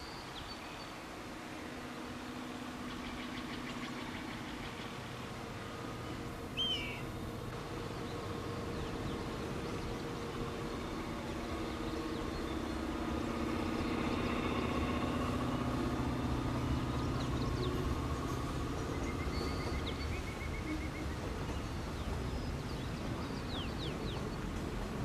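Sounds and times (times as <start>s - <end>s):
diesel locomotive engines running: 0.0s - 25.0s.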